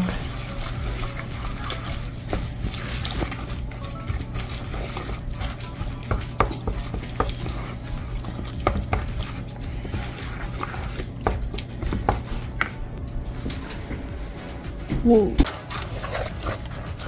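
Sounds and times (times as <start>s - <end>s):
spoon stirring batter in a bowl: 0.0s - 13.9s, 15.4s - 17.0s.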